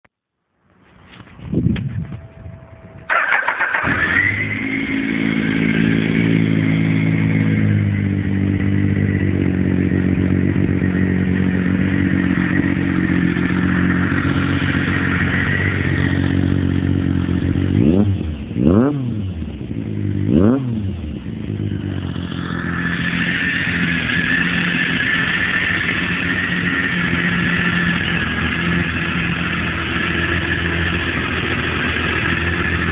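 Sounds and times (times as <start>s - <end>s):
motorcycle engine starting and idling: 0.9s - 32.9s
motorcycle engine revving: 2.3s - 32.9s.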